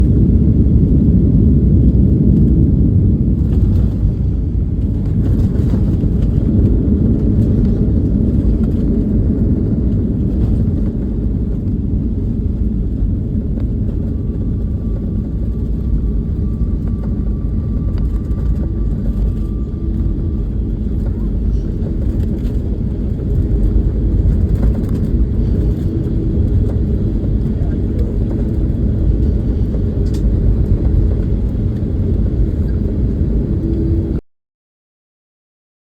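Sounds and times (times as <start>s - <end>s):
airliner engines rumbling: 0.0s - 34.2s.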